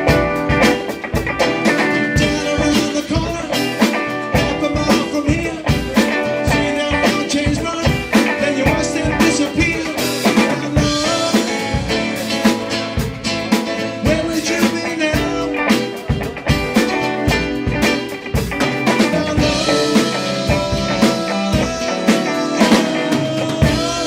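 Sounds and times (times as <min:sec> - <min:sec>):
drum kit steady beat: 0:00.0 - 0:24.0
guitar: 0:00.0 - 0:24.0.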